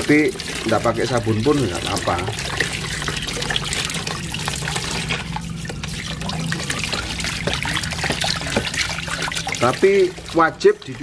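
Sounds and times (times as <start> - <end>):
hose water splashing on plastic: 0.0 - 11.0
water pouring into tub: 0.0 - 11.0.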